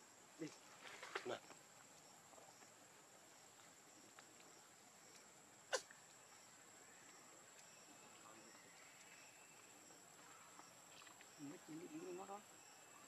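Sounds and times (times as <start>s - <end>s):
high-pitched insect hum: 0.0s - 13.0s.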